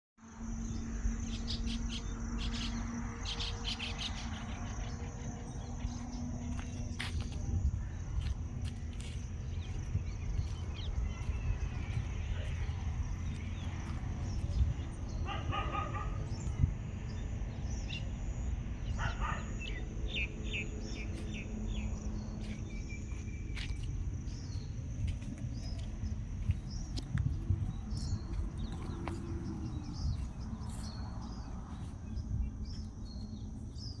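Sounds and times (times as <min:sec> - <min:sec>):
steady low rumble: 0:00.4 - 0:34.0
birds chirping: 0:00.6 - 0:34.0.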